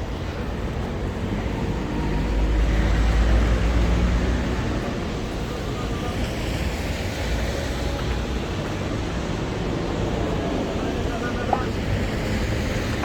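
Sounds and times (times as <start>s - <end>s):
passing vehicles rumbling: 0.0s - 13.0s
rain and tyres hissing: 0.0s - 13.0s.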